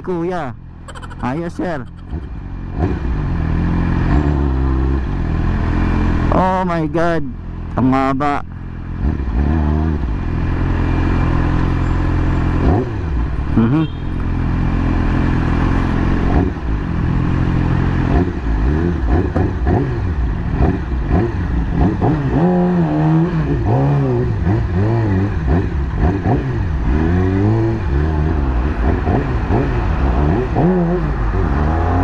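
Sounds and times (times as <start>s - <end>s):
motorcycle engine revving: 0.9s - 6.4s, 8.8s - 32.0s.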